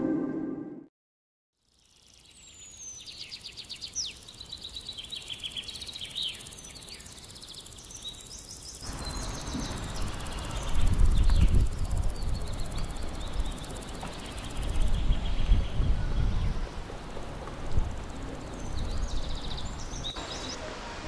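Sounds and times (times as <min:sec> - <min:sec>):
steady background hiss: 0:01.6 - 0:21.0
birds chirping and trilling: 0:01.7 - 0:20.6.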